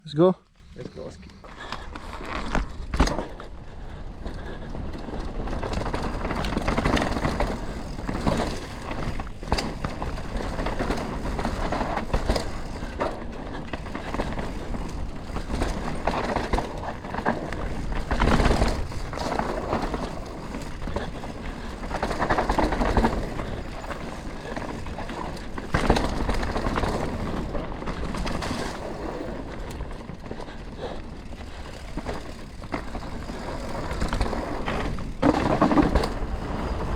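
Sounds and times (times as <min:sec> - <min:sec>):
bike tyres rolling over dirt: 0:00.5 - 0:36.9.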